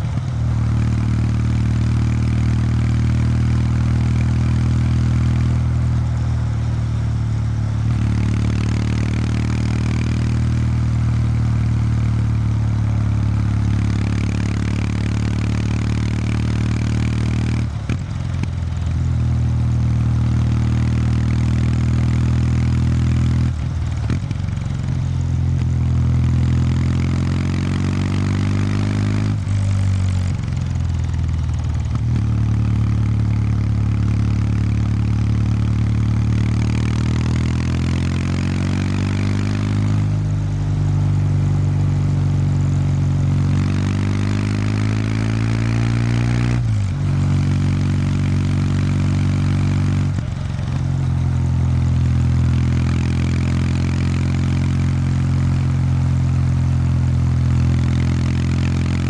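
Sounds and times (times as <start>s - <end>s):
motorcycle exhaust note: 0.0s - 59.0s.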